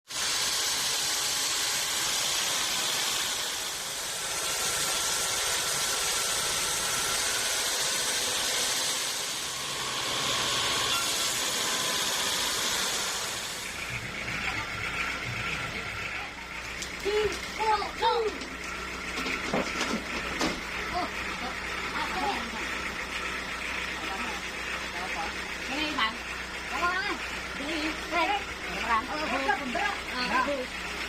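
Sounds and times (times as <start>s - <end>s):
band saw cutting a log: 0.0s - 31.0s.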